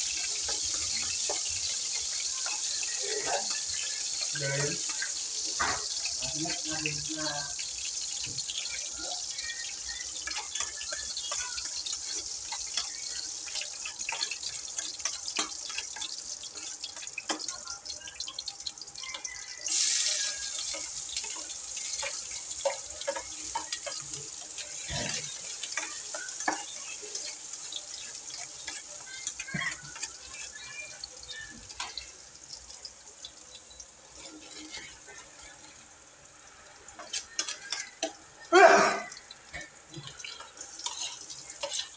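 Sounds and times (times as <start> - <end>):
food dropped into sizzling oil: 0.0 - 9.5, 10.2 - 35.4
hot oil sizzling in a pan: 0.0 - 41.9.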